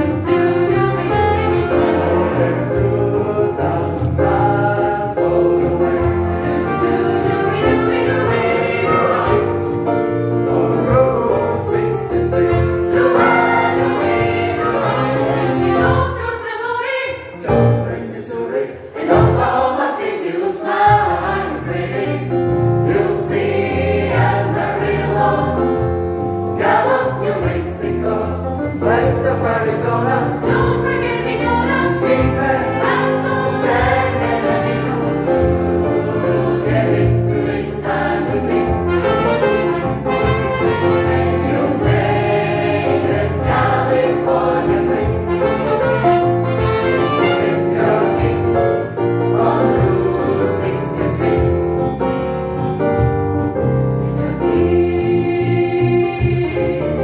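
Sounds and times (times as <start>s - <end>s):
keyboard: 0.0s - 16.4s, 17.2s - 57.0s
mixed choir singing: 0.0s - 52.0s, 54.0s - 57.0s.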